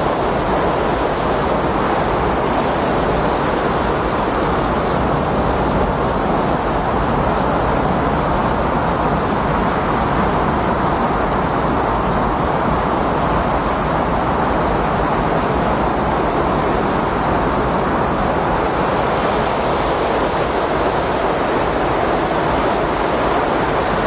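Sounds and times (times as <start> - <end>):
windstorm rushing: 0.0 - 24.0.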